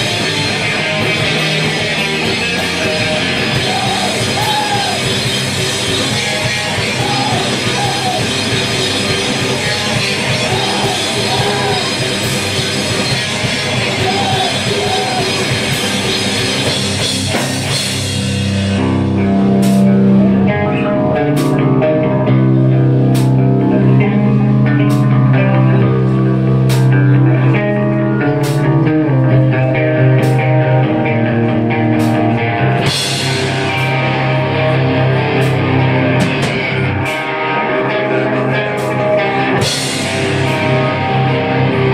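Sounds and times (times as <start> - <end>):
live hardcore band playing: 0.0 - 41.9.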